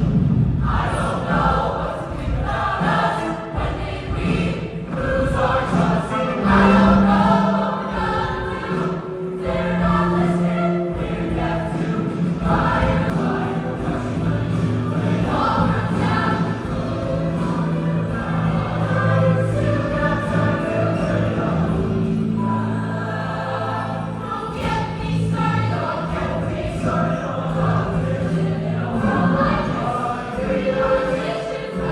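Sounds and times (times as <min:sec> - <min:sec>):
choir singing long held notes: 0:00.6 - 0:31.9.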